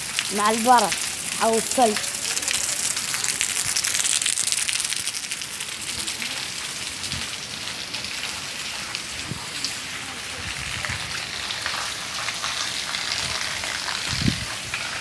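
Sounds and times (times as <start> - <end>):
heavy rain and hail: 0.0 - 15.0.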